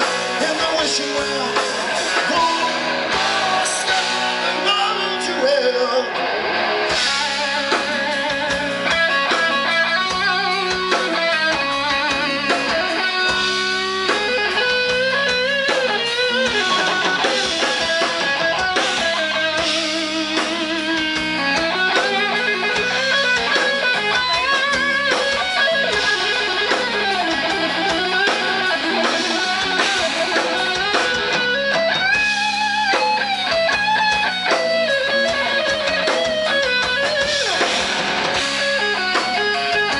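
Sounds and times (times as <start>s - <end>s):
bass guitar: 0.0s - 39.9s
drums: 0.0s - 39.9s
electric guitar solo: 0.0s - 39.9s.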